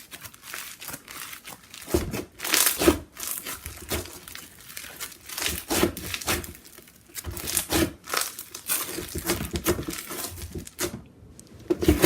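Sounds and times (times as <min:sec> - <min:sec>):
crunchy slime crackling: 0:00.0 - 0:12.0.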